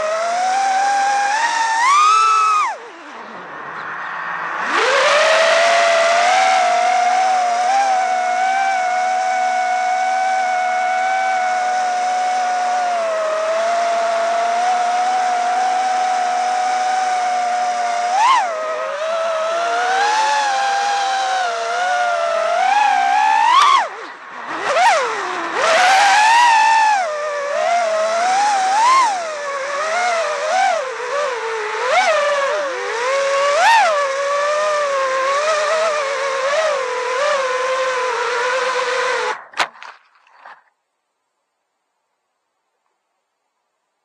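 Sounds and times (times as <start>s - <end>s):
quadcopter motors whining: 0.0s - 39.6s.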